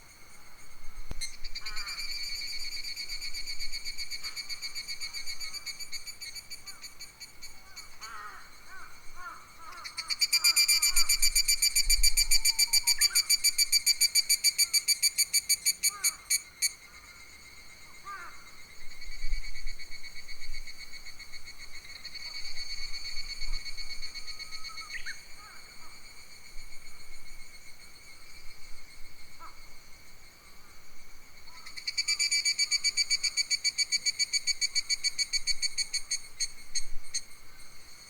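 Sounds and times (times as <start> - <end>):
cicada pulsing call: 0.1 - 38.0
high insect drone: 0.1 - 38.0.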